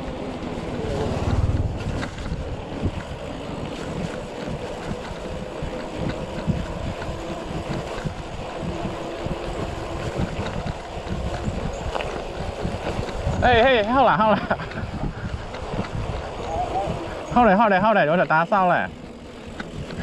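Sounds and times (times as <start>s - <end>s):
wind noise on microphone: 0.0s - 17.8s, 19.2s - 20.0s
steady rumble: 0.0s - 20.0s.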